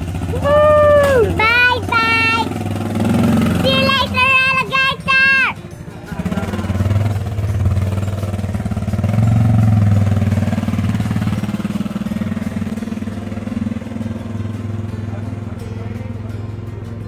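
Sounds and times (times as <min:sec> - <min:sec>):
motorcycle engine pulling away: 0:00.0 - 0:17.0.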